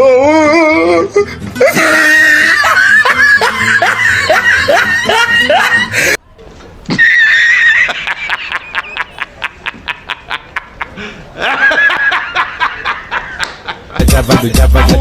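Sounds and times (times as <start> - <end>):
squealing laugh: 1.2 - 6.2, 6.9 - 14.0.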